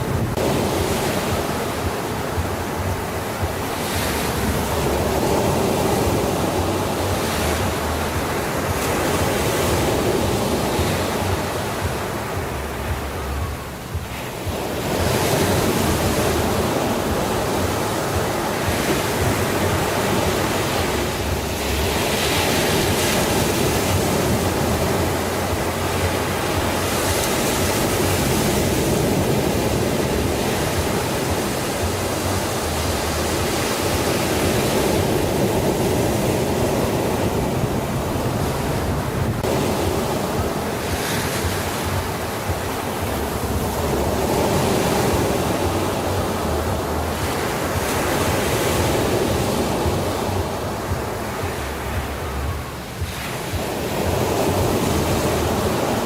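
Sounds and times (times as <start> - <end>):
sea waves washing in: 0.0 - 56.0
steady low rumble: 0.0 - 56.0.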